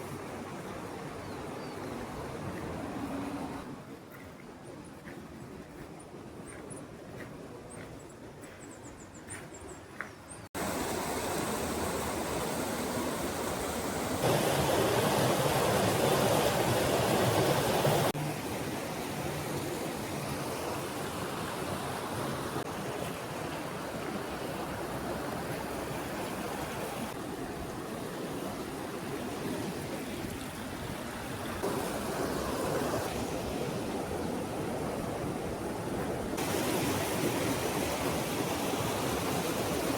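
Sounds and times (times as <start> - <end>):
stream water rushing: 0.0 - 4.4, 10.6 - 39.9.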